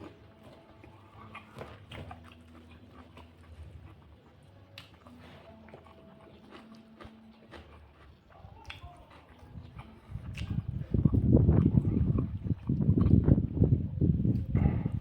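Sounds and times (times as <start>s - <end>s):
person chewing: 0.0s - 13.5s, 14.3s - 15.0s.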